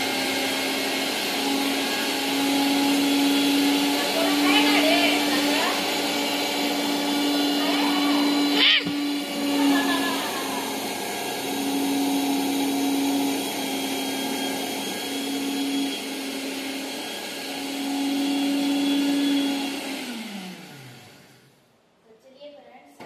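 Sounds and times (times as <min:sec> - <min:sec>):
mixer grinder grinding rice: 0:00.0 - 0:21.5.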